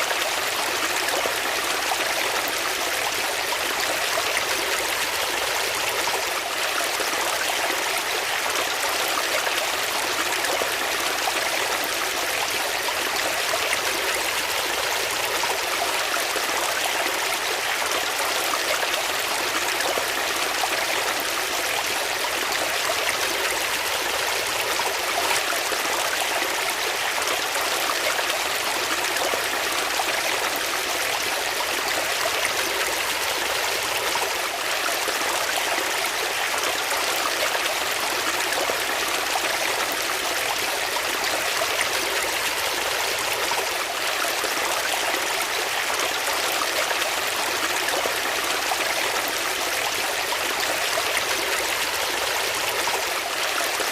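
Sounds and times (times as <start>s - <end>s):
flowing water: 0.0s - 53.9s.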